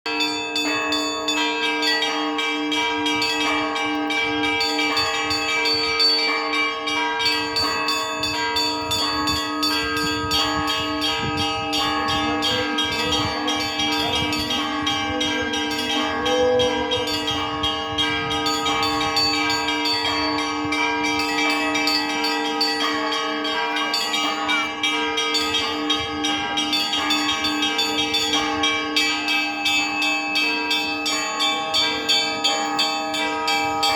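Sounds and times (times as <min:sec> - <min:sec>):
larger bells ringing: 0:00.1 - 0:33.9
small church bells ringing fast: 0:00.1 - 0:33.9.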